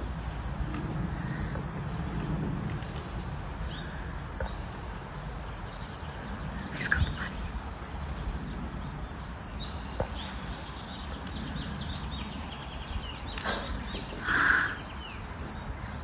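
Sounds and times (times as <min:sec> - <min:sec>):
low outdoor rumble: 0:00.0 - 0:16.0
bird chirping: 0:00.6 - 0:16.0.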